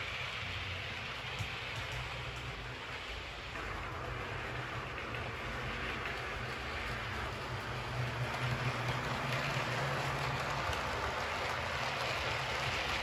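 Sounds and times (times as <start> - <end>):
model coach wheels rattling on track: 0.0 - 13.0
model locomotive motor hum: 0.0 - 13.0.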